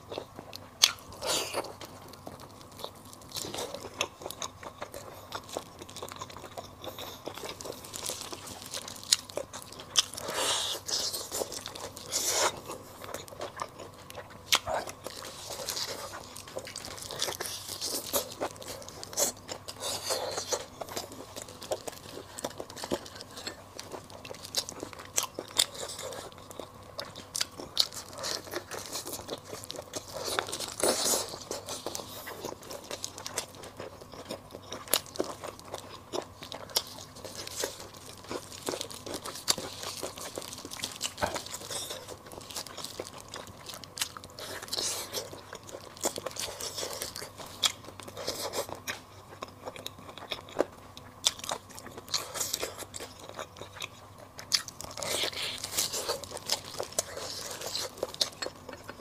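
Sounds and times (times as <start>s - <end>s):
biting and wet chewing: 0.0s - 59.0s.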